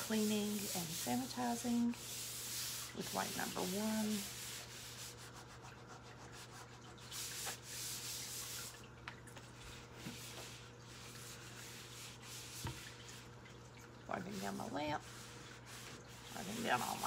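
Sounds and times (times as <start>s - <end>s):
wipe swishing over surfaces: 0.0s - 5.6s, 6.4s - 8.8s, 9.4s - 13.2s, 14.2s - 17.0s.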